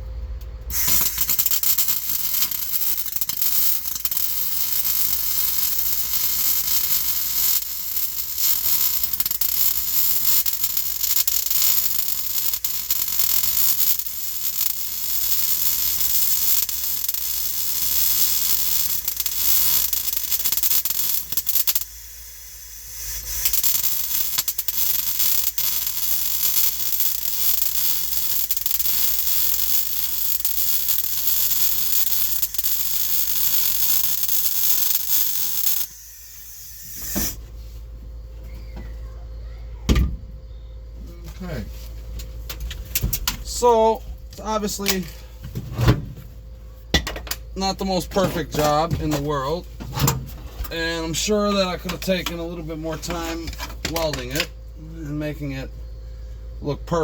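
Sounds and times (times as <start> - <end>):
welder arc crackling and hissing: 0.0 - 39.0, 41.0 - 57.0.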